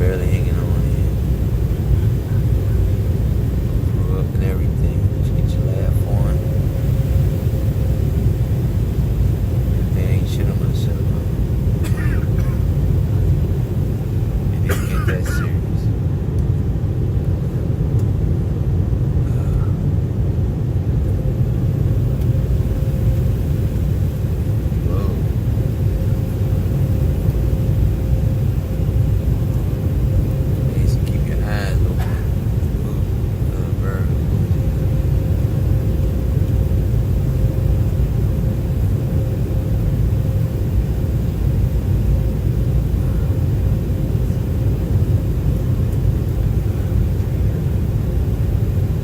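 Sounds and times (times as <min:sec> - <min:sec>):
faint steady hum: 0:00.0 - 0:49.0
jet engine cabin rumble: 0:00.0 - 0:49.0.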